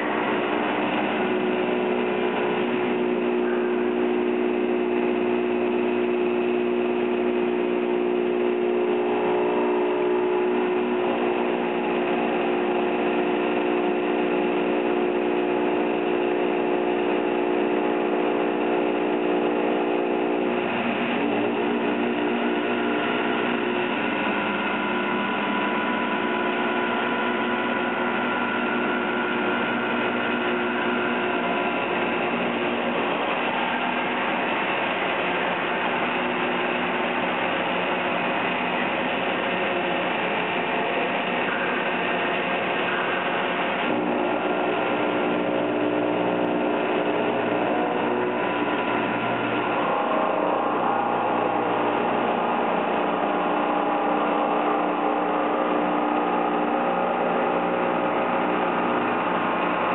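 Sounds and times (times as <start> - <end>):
coolant hiss: 0.0 - 59.9
milling machine humming: 0.0 - 59.9.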